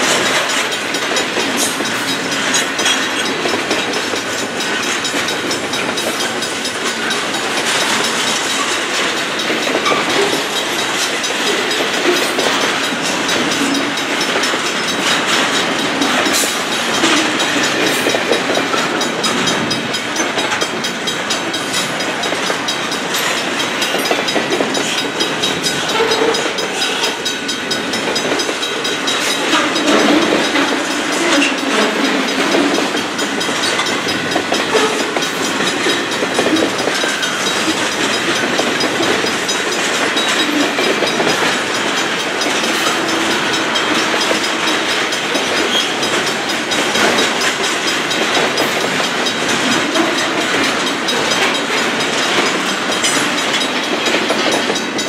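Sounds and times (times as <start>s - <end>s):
steel wheels on rail: 0.0s - 55.0s
wheels clicking and knocking: 0.0s - 55.0s.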